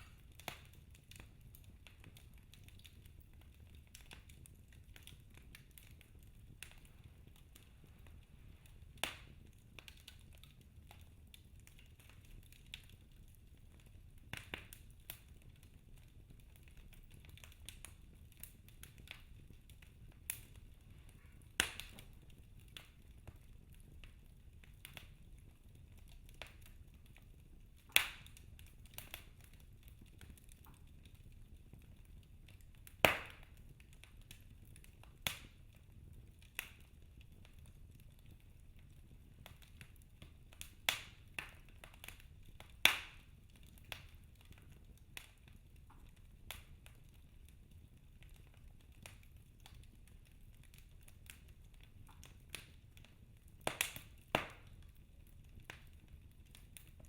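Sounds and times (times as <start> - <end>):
fire pops and snaps: 0.0 - 57.0
low rumble of flames: 0.0 - 57.0.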